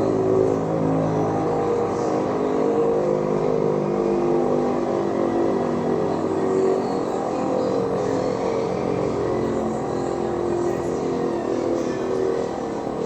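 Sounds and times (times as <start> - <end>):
low droning electronic tones: 0.0 - 13.0.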